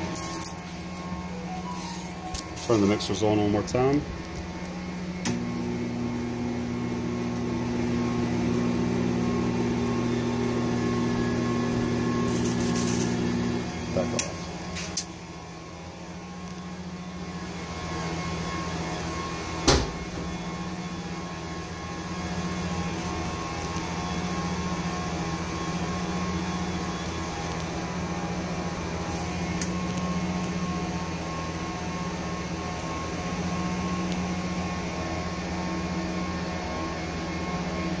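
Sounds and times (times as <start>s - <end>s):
paddle mixer motor hum: 0.0s - 38.0s.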